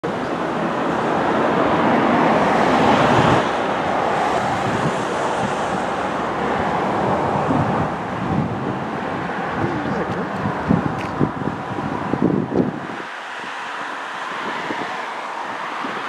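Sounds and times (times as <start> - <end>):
diesel locomotives approaching: 0.0 - 16.0.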